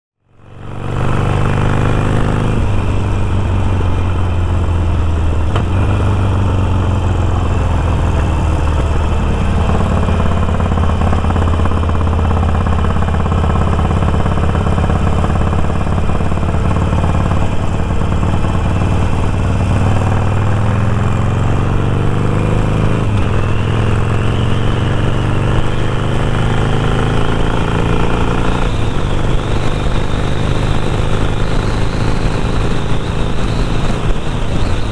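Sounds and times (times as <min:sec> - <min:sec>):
motorcycle engine running: 0:00.2 - 0:34.9.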